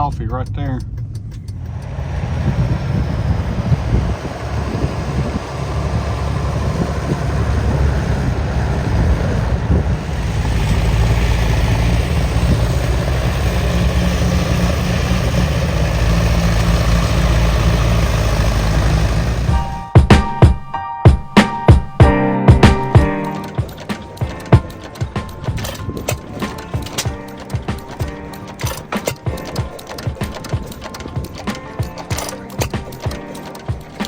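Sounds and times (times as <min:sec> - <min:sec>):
truck engine and road noise: 0:00.0 - 0:20.0, 0:21.5 - 0:34.0.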